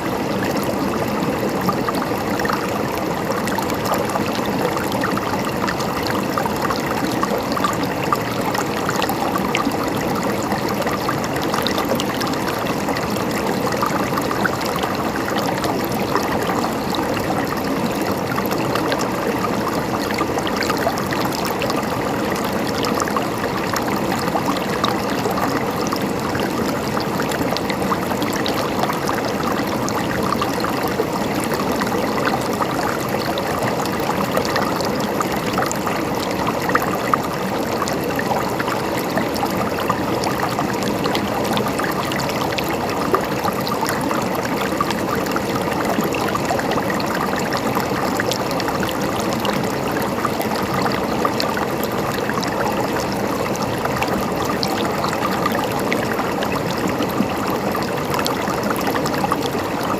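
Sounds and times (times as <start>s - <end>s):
stream water gurgling over stones: 0.0s - 59.9s.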